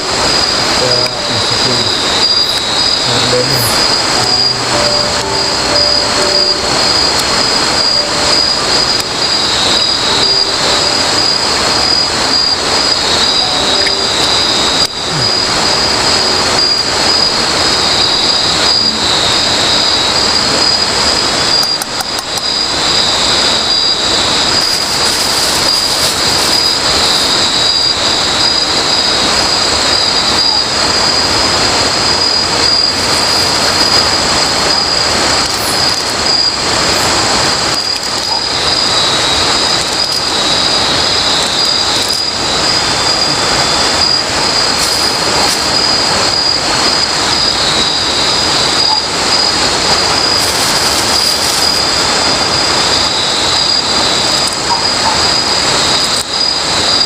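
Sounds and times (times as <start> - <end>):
constant hiss: 0.0 - 57.0
night insect chorus: 0.0 - 57.0.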